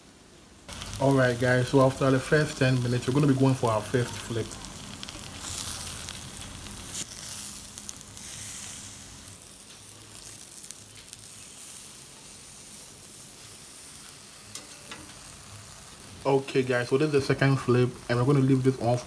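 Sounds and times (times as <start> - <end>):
chicken sizzling on a grill: 0.6 - 19.0.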